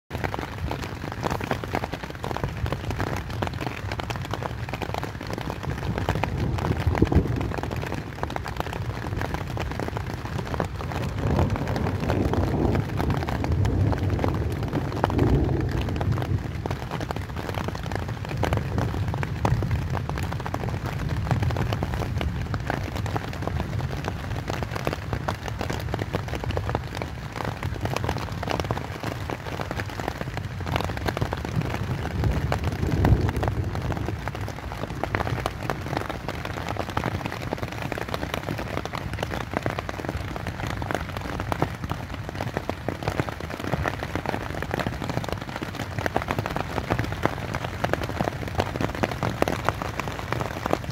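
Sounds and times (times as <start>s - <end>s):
rain drumming on tent fabric: 0.0s - 50.9s.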